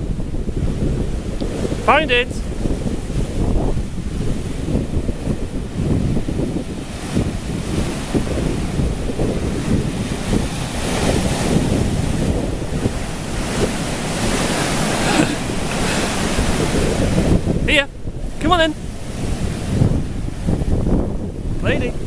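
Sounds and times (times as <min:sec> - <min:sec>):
surf breaking on pebbly beach: 0:00.0 - 0:22.0
wind buffeting microphone: 0:00.0 - 0:22.0.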